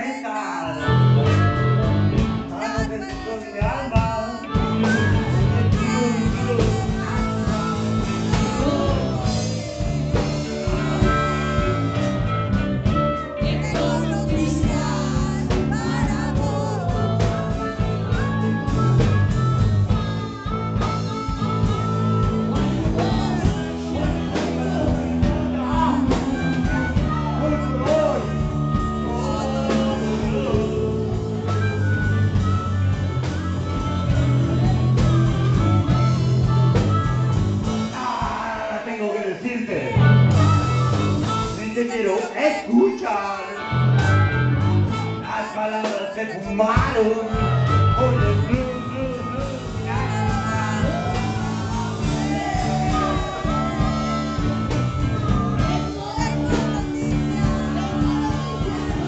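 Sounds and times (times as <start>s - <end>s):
electric guitar: 0.0s - 59.0s
live blues rock band: 0.1s - 59.0s.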